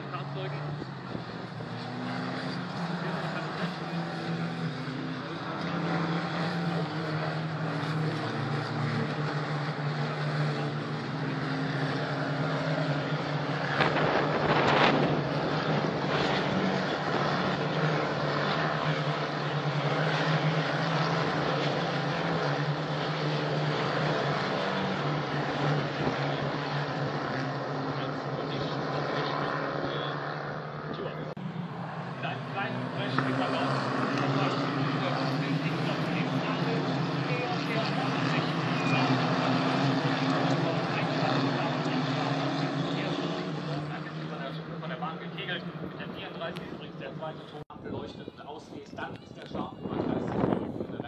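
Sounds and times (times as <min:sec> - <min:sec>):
race car engines droning: 0:00.0 - 0:51.0
race car passing loudly: 0:00.0 - 0:51.0.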